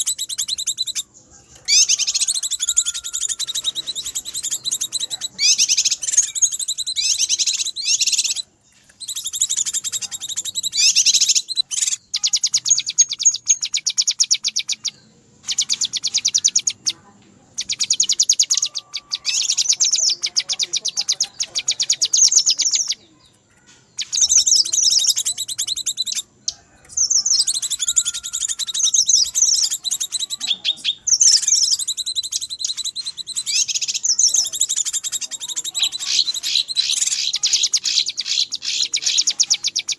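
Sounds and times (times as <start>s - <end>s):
bird chattering trills: 0.0s - 39.9s.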